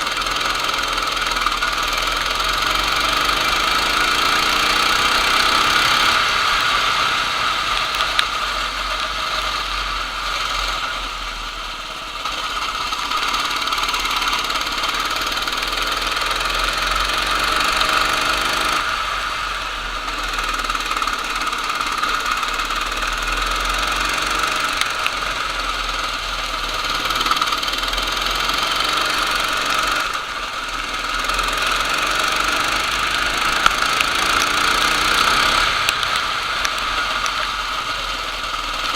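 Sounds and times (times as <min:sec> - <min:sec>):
kart engine racing: 0:00.0 - 0:38.9.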